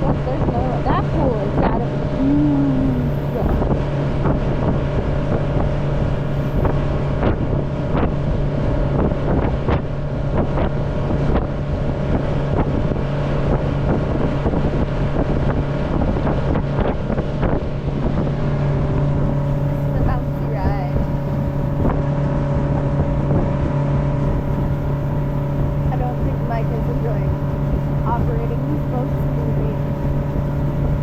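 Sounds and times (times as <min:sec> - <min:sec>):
motorboat engine running: 0:00.0 - 0:31.0
wind buffeting microphone: 0:00.0 - 0:31.0.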